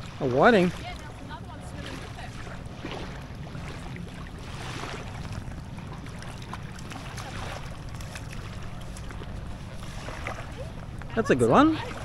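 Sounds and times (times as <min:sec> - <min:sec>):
water lapping and splashing: 0:00.0 - 0:12.0.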